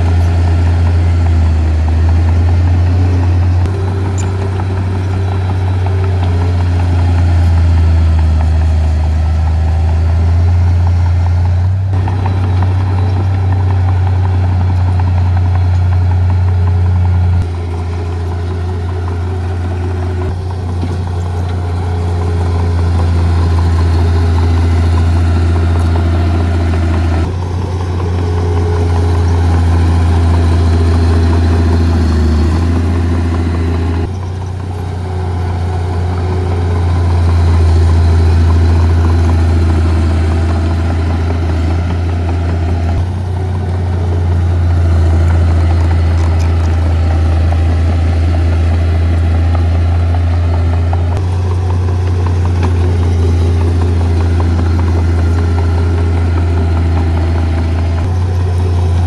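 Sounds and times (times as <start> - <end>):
heavy diesel machinery engine drone: 0.0 - 59.0.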